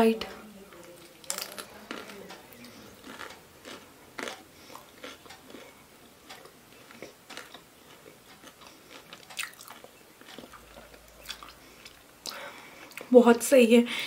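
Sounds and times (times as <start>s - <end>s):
person chewing crispy food: 0.7s - 13.1s.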